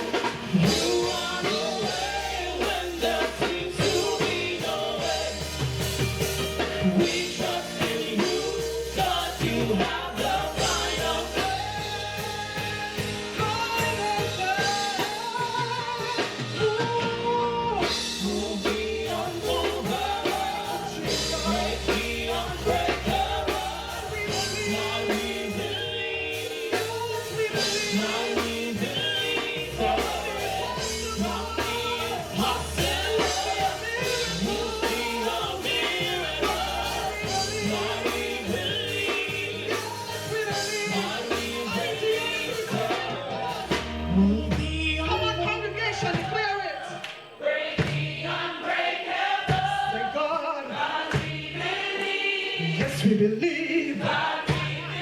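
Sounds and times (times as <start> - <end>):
band with bass and drums: 0.0 - 46.7, 47.7 - 55.0
singers leading a song: 0.0 - 55.0.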